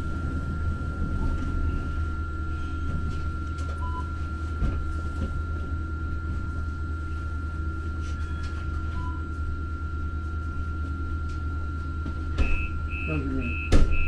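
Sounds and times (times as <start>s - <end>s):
thin high whine: 0.0s - 13.8s
train car rumble: 0.0s - 14.0s.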